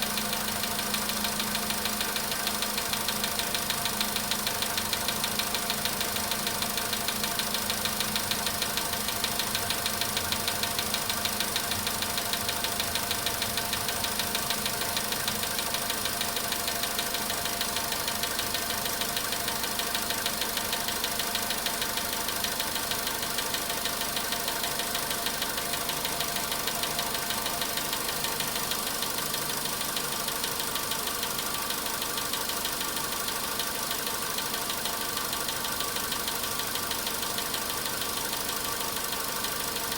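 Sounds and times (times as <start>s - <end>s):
car engine idling: 0.0s - 39.9s
rapid engine knocking: 0.0s - 39.9s.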